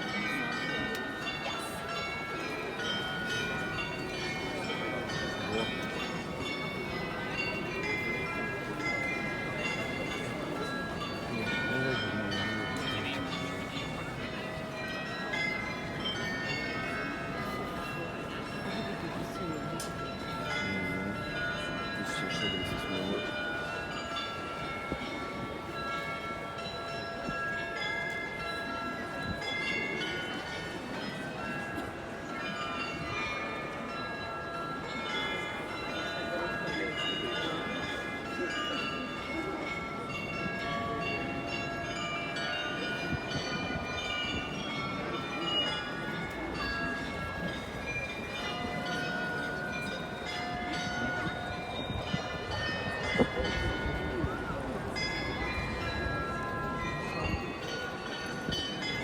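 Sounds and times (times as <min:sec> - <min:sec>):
carillon bells ringing a tune: 0:00.0 - 0:59.0
crowd murmur: 0:00.0 - 0:59.0.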